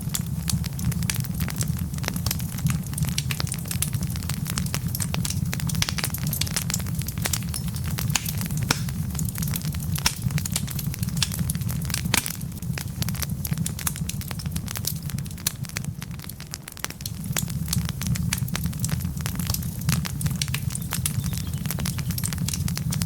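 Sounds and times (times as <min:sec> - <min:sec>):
logs crackling and popping: 0:00.0 - 0:23.0
low rumble of flames: 0:00.0 - 0:23.0.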